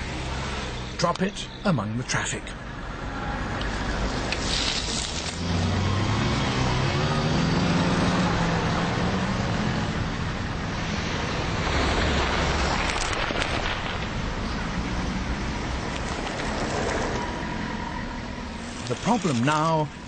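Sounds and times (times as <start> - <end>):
cars driving past: 0.0 - 1.5, 2.2 - 20.0
vehicle engine hum: 0.0 - 20.0.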